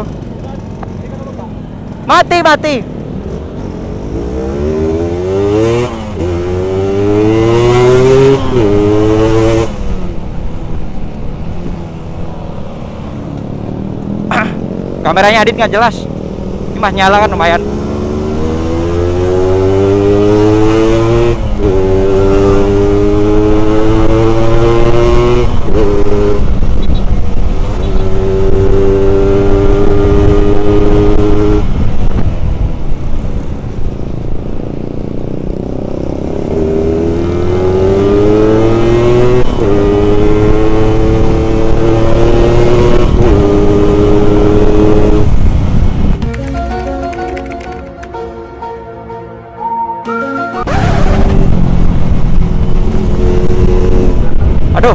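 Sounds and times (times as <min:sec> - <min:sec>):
motorcycle engine accelerating: 0:00.0 - 0:47.9, 0:50.6 - 0:54.9.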